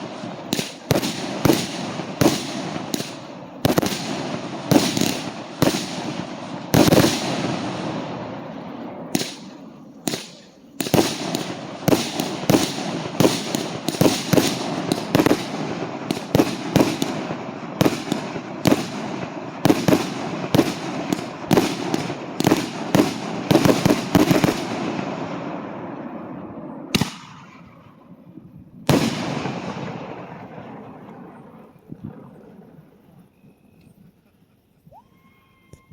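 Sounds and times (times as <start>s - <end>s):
fireworks bangs: 0.0s - 32.4s
rolling echo: 0.0s - 33.6s.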